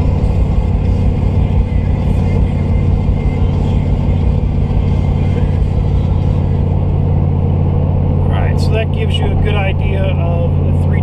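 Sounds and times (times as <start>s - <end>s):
engine drone: 0.0s - 11.0s
road noise inside vehicle: 0.0s - 11.0s.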